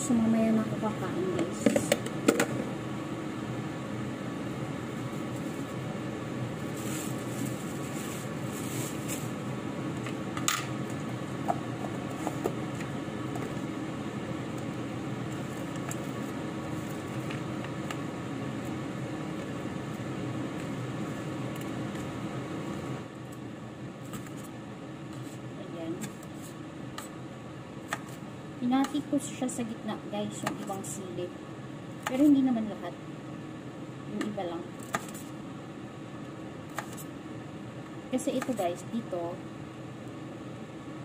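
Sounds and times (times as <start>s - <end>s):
machine hum: 0.0s - 34.8s.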